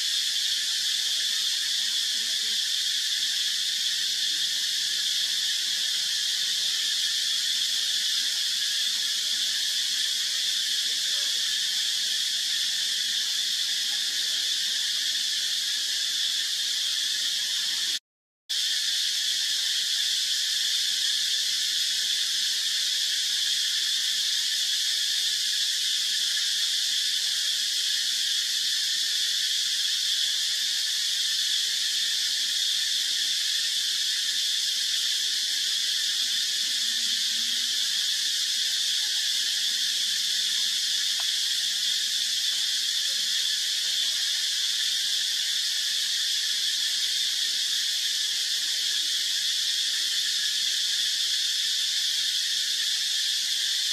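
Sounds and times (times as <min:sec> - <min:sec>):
insect chorus drone: 0:00.0 - 0:53.9.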